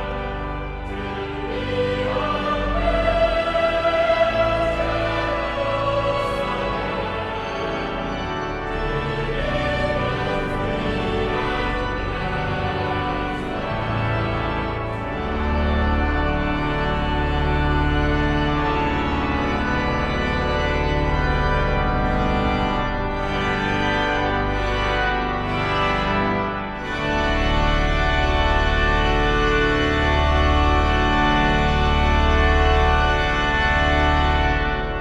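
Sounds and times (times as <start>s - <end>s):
organ playing slow chords: 0.0s - 35.0s.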